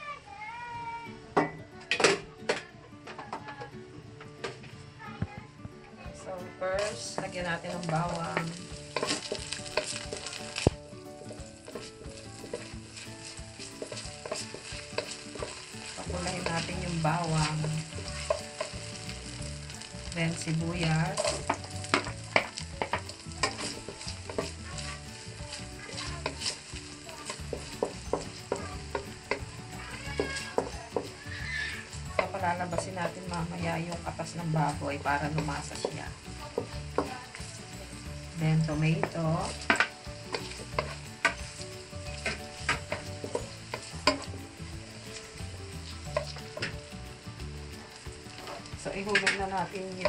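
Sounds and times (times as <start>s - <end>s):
onion sizzling in hot oil: 0.0s - 50.0s
wooden spatula scraping a wok: 6.7s - 50.0s.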